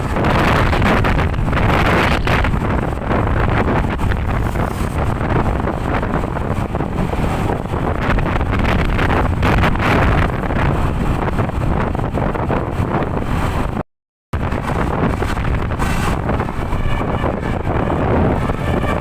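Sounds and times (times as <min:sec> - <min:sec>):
road and engine noise: 0:00.0 - 0:13.8, 0:14.4 - 0:19.0
wind buffeting microphone: 0:00.0 - 0:13.8, 0:14.4 - 0:19.0.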